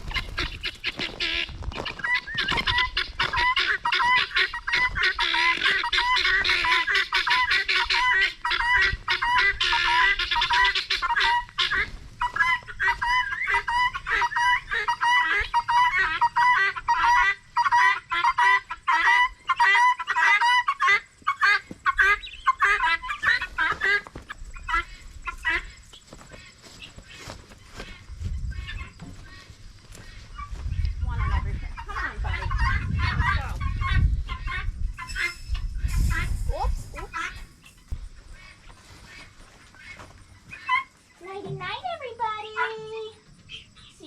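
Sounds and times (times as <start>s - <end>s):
guinea fowl and chickens calling: 0.0s - 44.0s.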